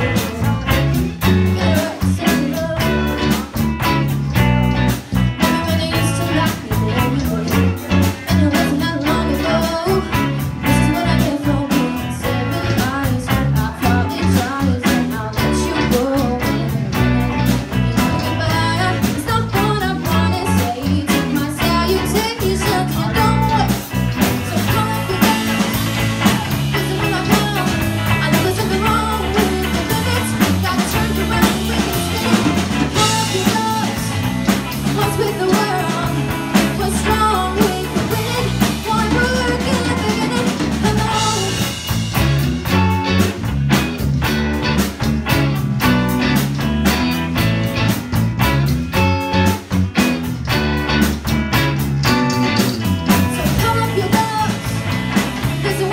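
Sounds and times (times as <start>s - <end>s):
bass guitar: 0.0s - 55.9s
drum kit: 0.0s - 55.9s
electric guitars: 0.0s - 55.9s.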